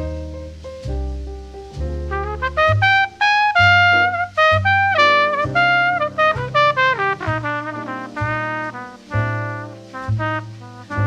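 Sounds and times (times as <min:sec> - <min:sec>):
deep bass note: 0:00.0 - 0:11.0
slow jazz ballad: 0:00.0 - 0:11.0.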